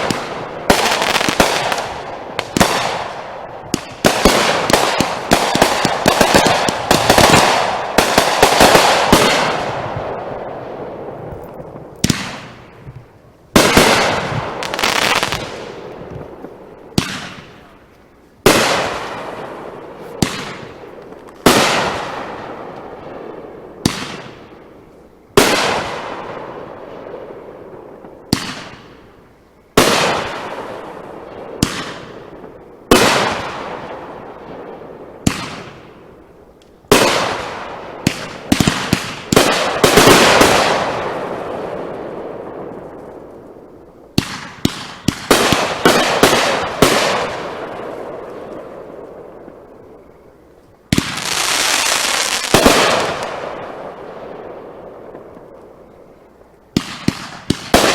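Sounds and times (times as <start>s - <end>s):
fireworks bangs: 0.0s - 57.9s
fireworks crackle: 0.0s - 57.9s.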